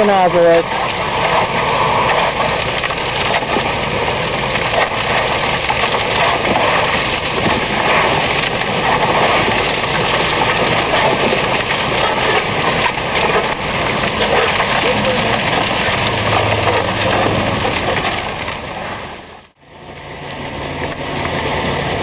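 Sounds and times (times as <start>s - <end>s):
pump engine droning: 0.0s - 22.0s
water and gravel rushing: 0.0s - 22.0s.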